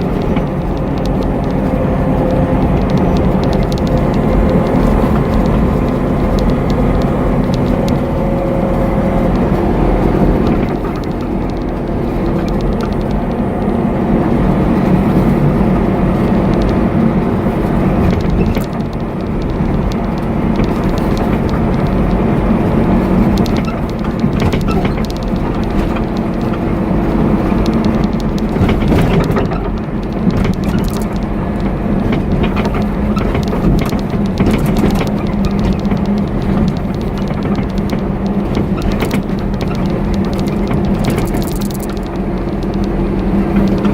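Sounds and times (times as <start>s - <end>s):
road noise: 0.0s - 43.9s
truck engine running: 0.0s - 43.9s.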